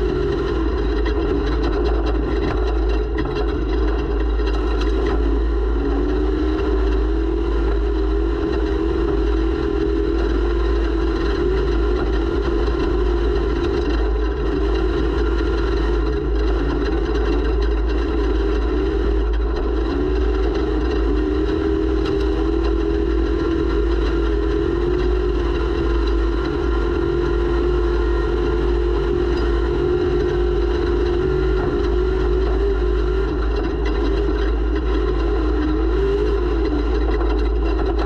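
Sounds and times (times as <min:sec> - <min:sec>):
off-road vehicle engine running: 0:00.0 - 0:38.0.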